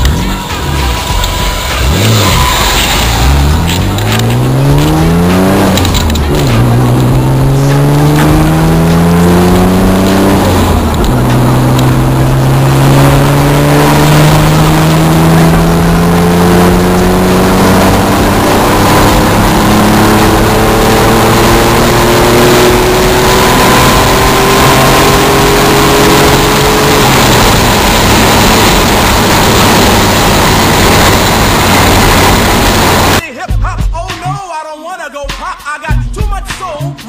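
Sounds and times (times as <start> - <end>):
car engine revving: 0.0 - 33.2.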